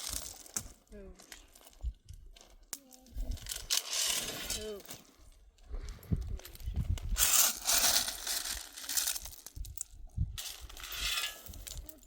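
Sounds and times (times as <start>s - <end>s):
pebbles poured and rattling: 0.0s - 5.2s, 6.1s - 12.0s.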